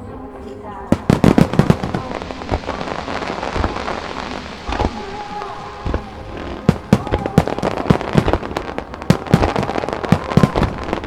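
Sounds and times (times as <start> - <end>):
faint music: 0.0 - 11.0
firework bangs: 0.9 - 11.0
fireworks crackling: 0.9 - 11.0.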